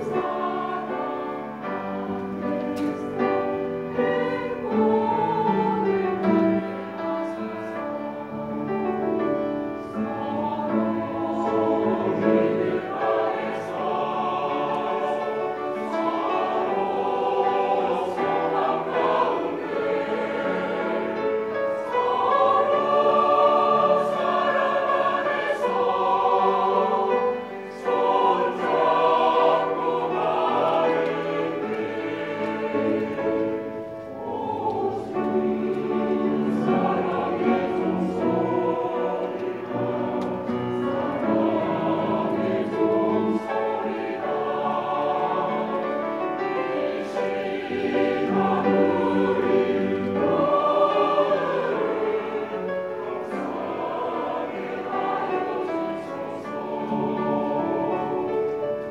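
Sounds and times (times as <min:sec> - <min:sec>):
choir singing a hymn: 0:00.0 - 0:58.9.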